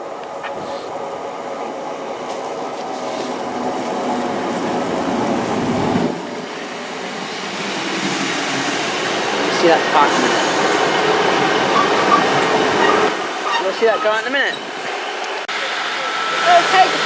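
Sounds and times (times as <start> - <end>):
train engine and wheels rumbling: 0.0 - 17.0.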